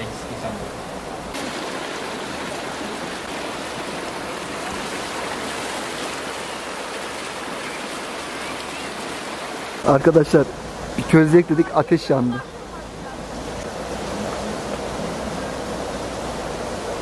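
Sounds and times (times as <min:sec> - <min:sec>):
water rushing through concrete channel: 0:00.0 - 0:17.0.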